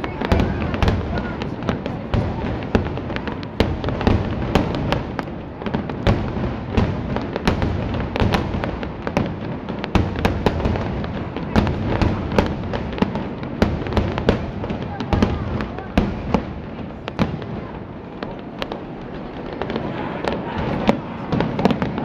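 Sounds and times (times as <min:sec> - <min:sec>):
firework bangs: 0:00.0 - 0:22.0
rumble and crackle of fireworks: 0:00.0 - 0:22.0.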